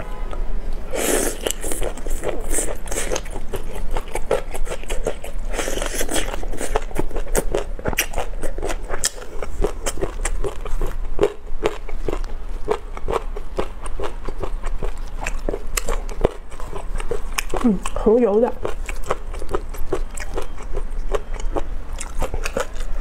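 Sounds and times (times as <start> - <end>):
person biting and chewing food: 0.8 - 18.0, 18.6 - 23.0.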